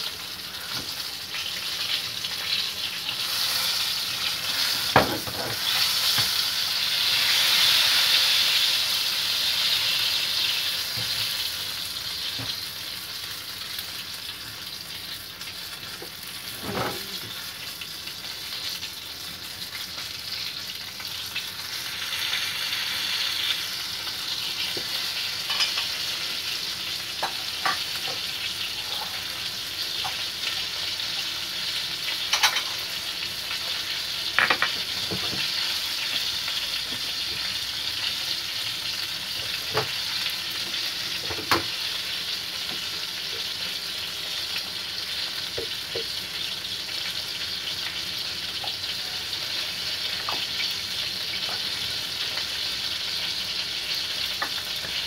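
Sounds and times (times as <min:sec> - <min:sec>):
chicken deep-frying in oil: 0:00.0 - 0:55.0.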